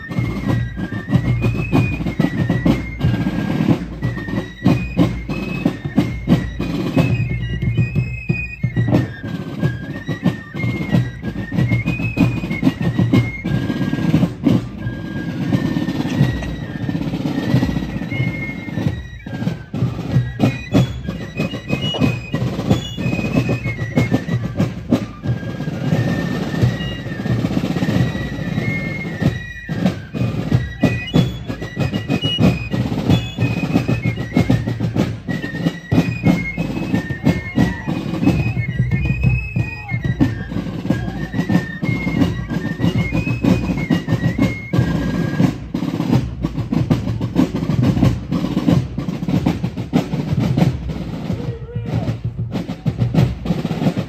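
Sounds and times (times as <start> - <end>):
drum strokes: 0.0 - 54.0.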